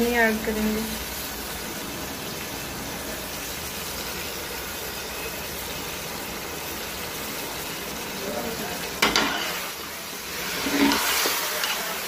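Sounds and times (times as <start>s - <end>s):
curry sizzling in oil: 0.0s - 12.0s.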